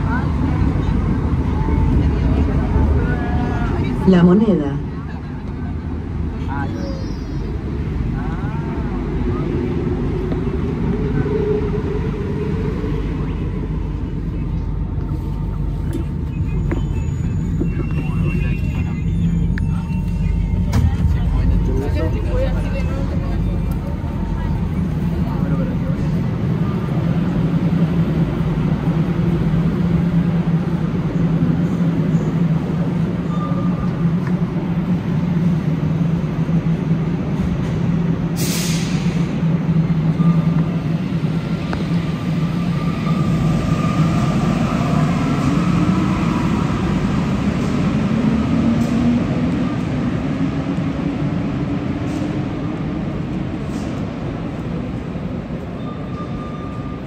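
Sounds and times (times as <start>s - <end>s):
metro car low drone: 0.0s - 57.0s.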